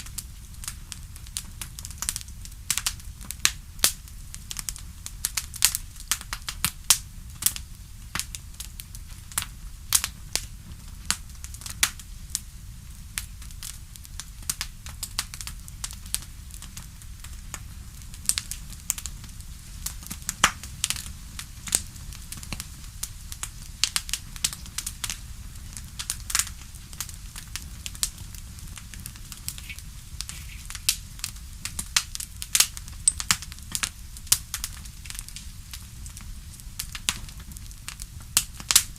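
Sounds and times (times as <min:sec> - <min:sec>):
low steady rumble: 0:00.0 - 0:38.8
campfire crackling: 0:00.0 - 0:38.9.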